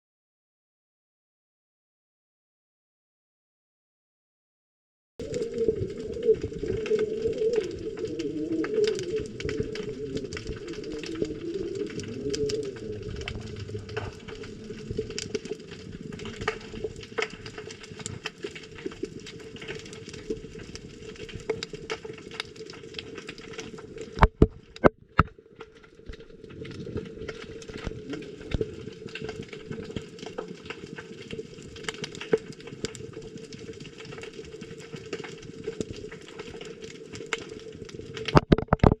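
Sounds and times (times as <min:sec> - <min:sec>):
crackling clicks: 0:05.2 - 0:39.0
muffled underwater wash: 0:05.2 - 0:39.0.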